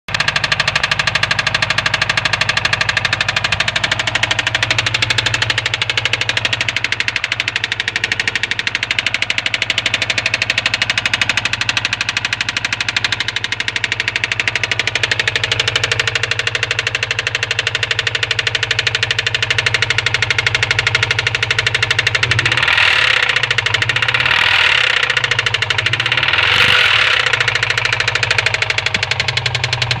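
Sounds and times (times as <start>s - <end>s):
car engine knocking: 0.1s - 30.0s.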